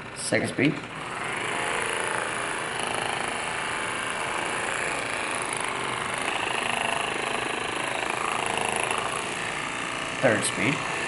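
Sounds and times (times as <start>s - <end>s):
massage gun motor buzzing: 0.0s - 11.0s.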